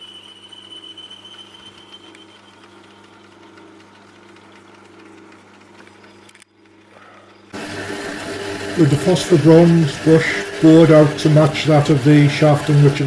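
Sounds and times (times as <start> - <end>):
lathe motor hum: 0.1 - 13.0.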